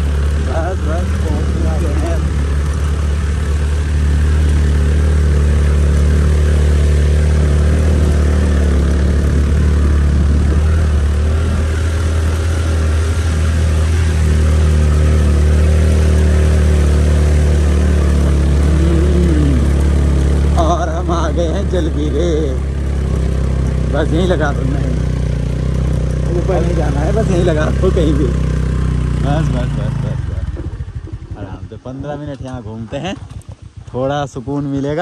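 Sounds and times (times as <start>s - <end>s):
heavy low rumble: 0.0s - 35.0s
scooter engine climbing: 0.0s - 35.0s.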